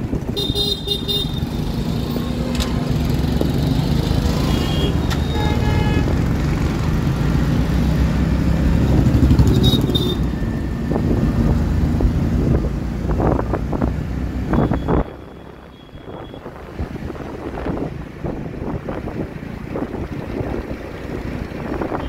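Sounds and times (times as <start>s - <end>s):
road and wind noise: 0.0s - 22.0s
vehicle engine rumble: 0.0s - 22.0s.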